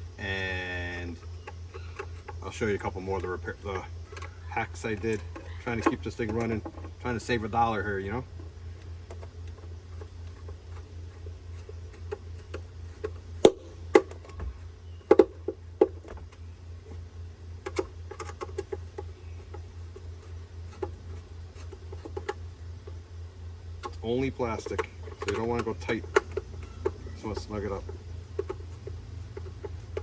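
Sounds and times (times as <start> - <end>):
steady low hum: 0.0 - 30.0
plastic parts clicking and knocking: 1.3 - 7.0, 8.4 - 16.4, 17.6 - 23.0, 23.8 - 30.0.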